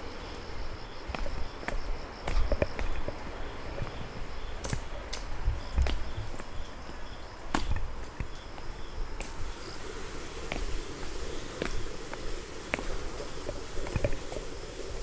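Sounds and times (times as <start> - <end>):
insects chirring: 0.0 - 15.0
footsteps on rocky trail: 0.5 - 15.0.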